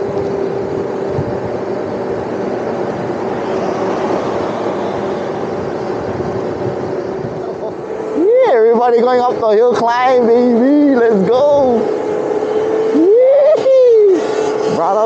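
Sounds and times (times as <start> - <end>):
wind on microphone: 0.0 - 13.0
electric motor whine: 0.0 - 15.0.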